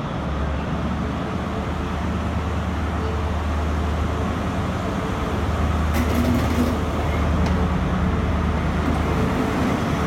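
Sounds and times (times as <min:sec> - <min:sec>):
diesel train engine humming: 0:00.0 - 0:10.0.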